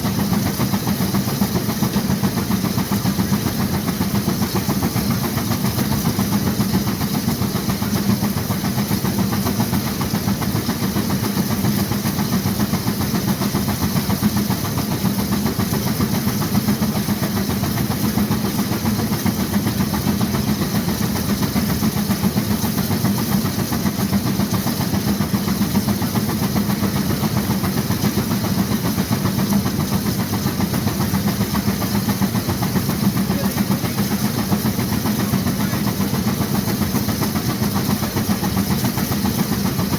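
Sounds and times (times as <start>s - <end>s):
steam engine exhaust beating: 0.0s - 39.9s.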